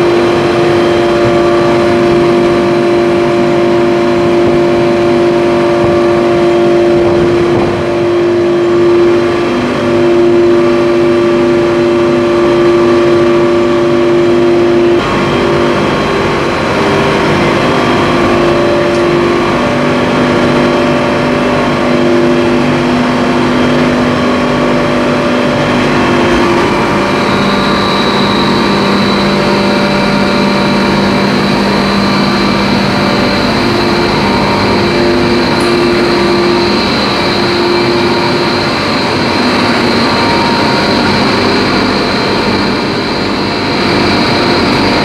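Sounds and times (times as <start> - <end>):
air compressor droning: 0.0 - 45.0
high whine: 0.0 - 45.0
low hum: 0.0 - 45.0.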